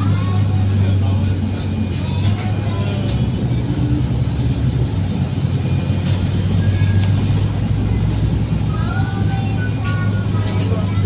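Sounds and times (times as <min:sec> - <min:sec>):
bus cabin drone: 0:00.0 - 0:11.0.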